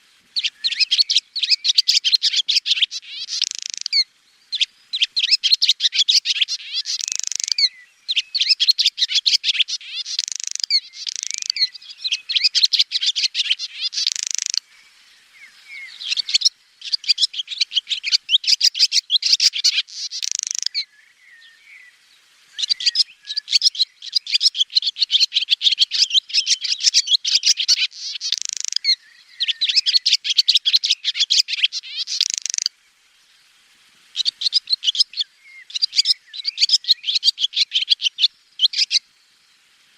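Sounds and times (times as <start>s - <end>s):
swallow twittering: 0.0s - 21.9s, 22.6s - 32.7s, 34.1s - 39.0s.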